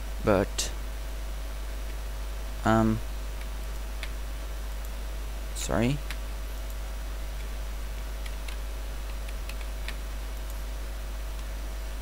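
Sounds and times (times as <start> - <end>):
low electrical hum and hiss: 0.0 - 12.0.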